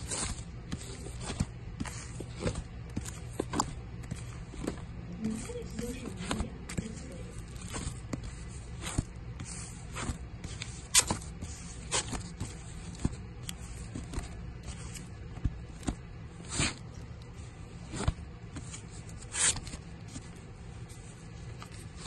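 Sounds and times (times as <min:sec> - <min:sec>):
plastic record sleeves slapping: 0:00.0 - 0:20.4
sleeves rustling: 0:00.0 - 0:22.0
steady low hum: 0:00.0 - 0:22.0.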